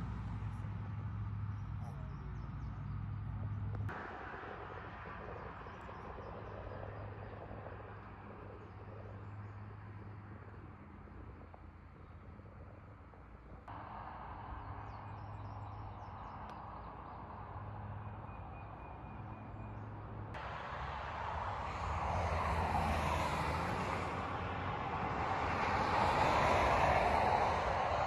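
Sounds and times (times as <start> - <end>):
outdoor background drone: 0.0 - 28.0
vehicle approaching on road: 0.0 - 28.0.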